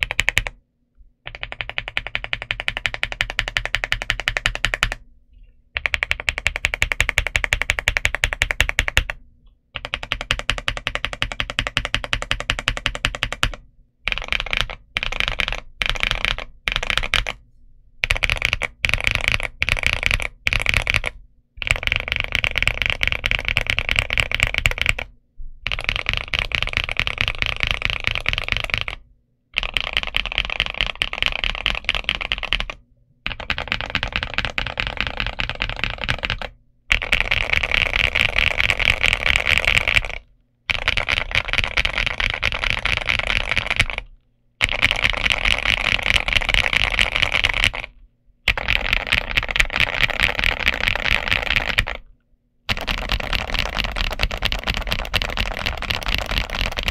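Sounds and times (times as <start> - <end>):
fast typing on mechanical keyboard: 0.0 - 0.6, 1.3 - 5.0, 5.8 - 9.2, 9.8 - 17.4, 18.0 - 29.0, 29.6 - 52.1, 52.7 - 56.9.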